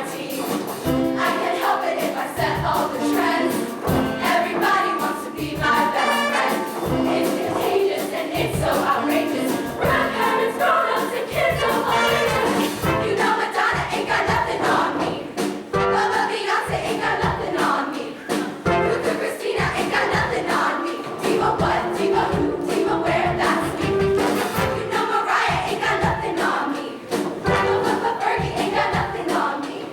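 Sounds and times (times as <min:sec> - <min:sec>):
instrumental accompaniment with beat: 0:00.0 - 0:29.5
choir singing: 0:00.0 - 0:29.9.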